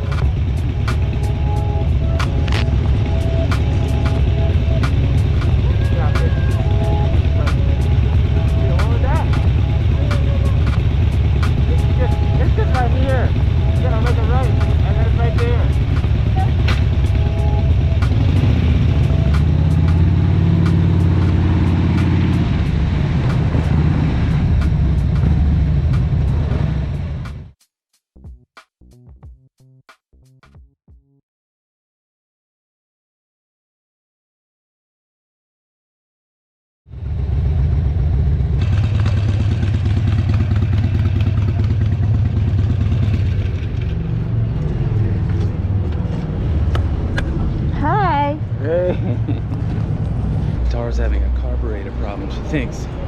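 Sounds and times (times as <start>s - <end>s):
motorcycle engine running: 0.0s - 27.6s, 36.9s - 53.0s
wind and road noise: 0.0s - 27.6s, 36.9s - 53.0s.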